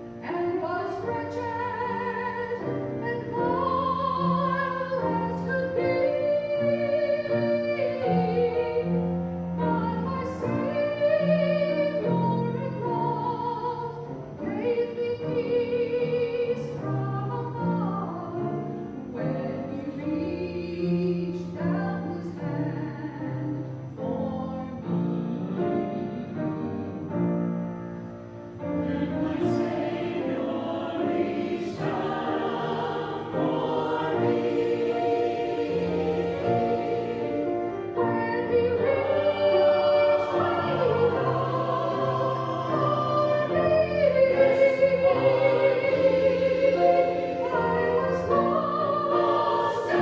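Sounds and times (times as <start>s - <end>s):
keyboard accompaniment: 0.0s - 50.0s.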